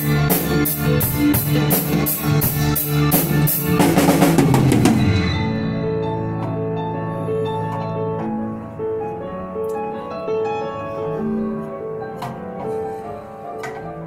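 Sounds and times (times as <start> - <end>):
piano melody over chords: 0.0 - 14.0.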